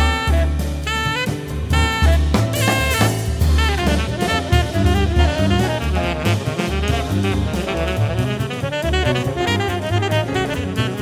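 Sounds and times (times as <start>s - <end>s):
drum kit: 0.0s - 11.0s
saxophone: 0.0s - 11.0s
walking bass line: 0.0s - 11.0s.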